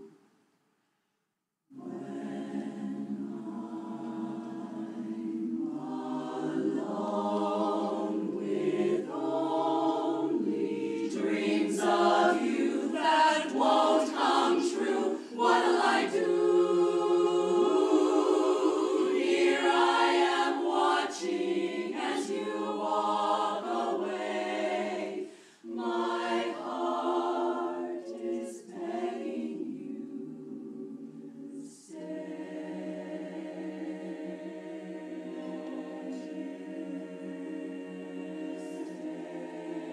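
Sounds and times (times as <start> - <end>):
women's chorus singing a cappella: 1.7 - 39.9.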